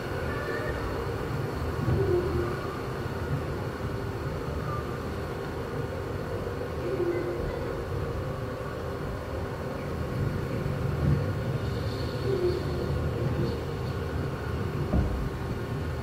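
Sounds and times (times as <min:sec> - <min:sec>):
hall room rumble and hum: 0:00.0 - 0:16.0.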